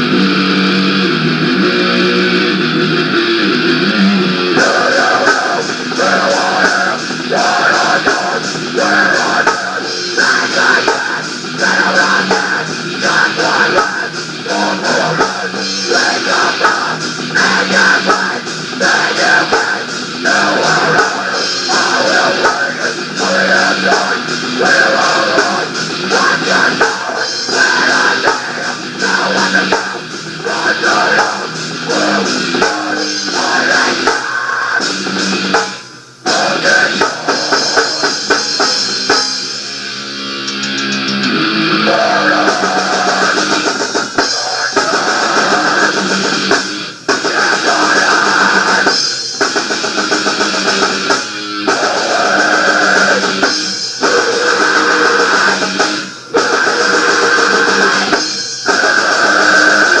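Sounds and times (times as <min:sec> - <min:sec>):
drum kit: 0:00.0 - 1:00.0
guitar: 0:00.0 - 1:00.0
rock band playing: 0:00.0 - 1:00.0.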